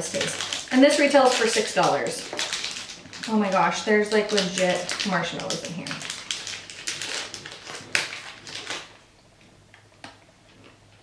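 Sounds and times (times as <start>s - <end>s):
wrapper crinkling and rustling: 0.0s - 9.1s.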